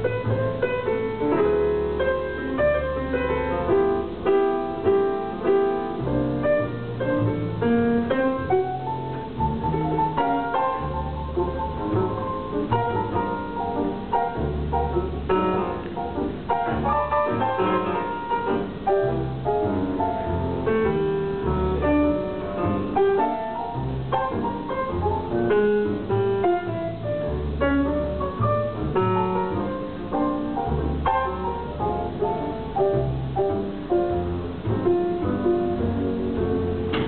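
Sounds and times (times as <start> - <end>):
double bass low notes: 0.0 - 37.0
grand piano notes: 0.0 - 37.0.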